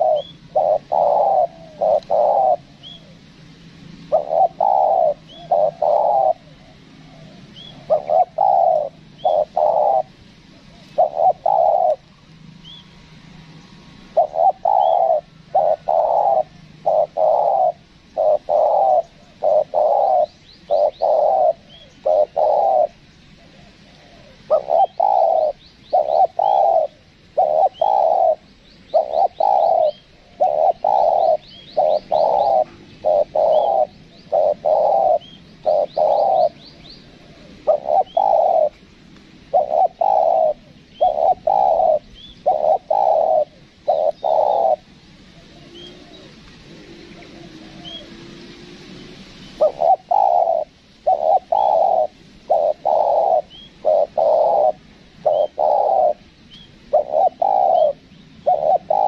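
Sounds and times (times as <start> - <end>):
dove cooing: 0.0 - 3.4, 4.0 - 59.0
small birds chirping: 0.0 - 59.0.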